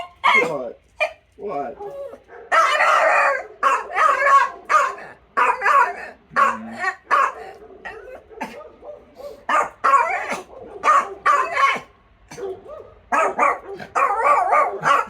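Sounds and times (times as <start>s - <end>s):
dog barking and yipping: 0.0s - 15.0s.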